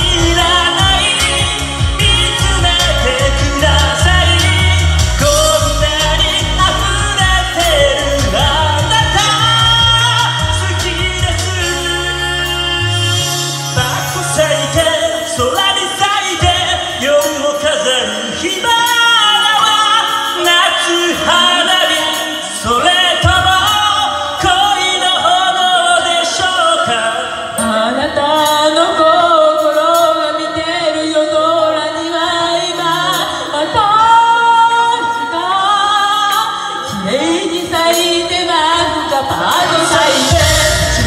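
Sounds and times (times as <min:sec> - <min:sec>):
man singing into a microphone: 0:00.0 - 0:41.0
pop backing track: 0:00.0 - 0:41.0
woman singing: 0:00.0 - 0:41.0.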